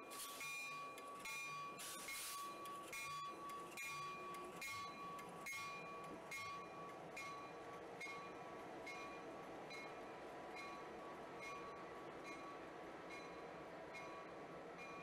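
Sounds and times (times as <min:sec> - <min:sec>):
rumble of passing locomotive: 0:00.0 - 0:15.0.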